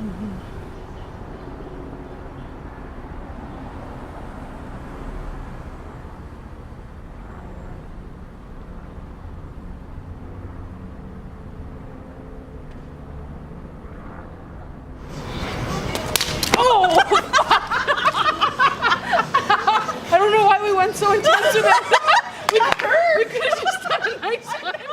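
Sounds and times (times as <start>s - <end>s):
road traffic rumble: 0.0s - 24.9s.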